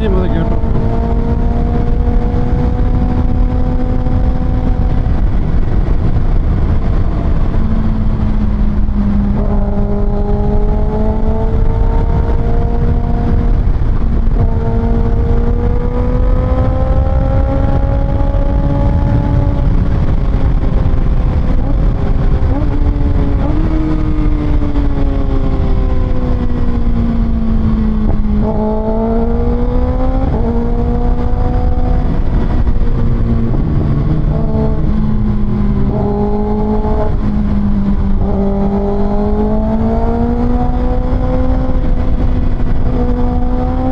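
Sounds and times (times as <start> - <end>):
motorcycle engine revving: 0.0 - 43.9
wind rumble on microphone: 0.0 - 43.9.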